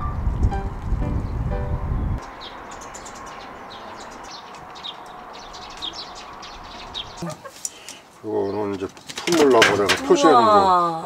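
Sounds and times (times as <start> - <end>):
small birds chirping: 0.1 - 9.6
outdoor hush: 2.1 - 11.0.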